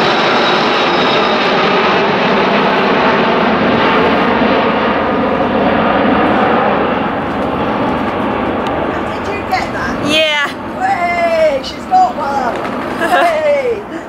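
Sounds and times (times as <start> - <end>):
jet airliner roar: 0.0 - 14.0.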